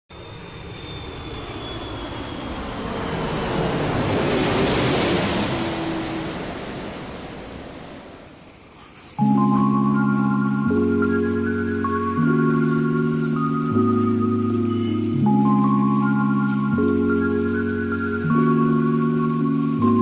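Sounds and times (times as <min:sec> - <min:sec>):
jet airliner passing: 0:00.1 - 0:20.0.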